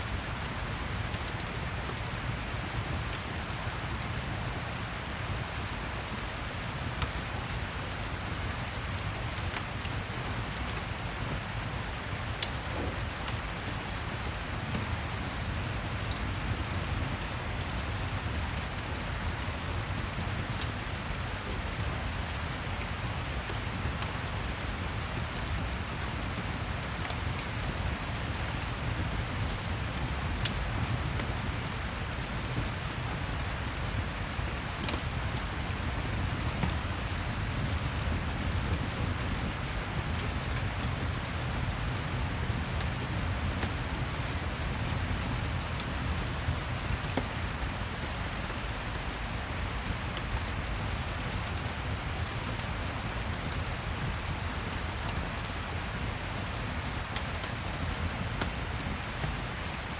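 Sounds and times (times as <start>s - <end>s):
steady rain: 0.0s - 59.9s
wood fire crackling: 0.1s - 59.9s.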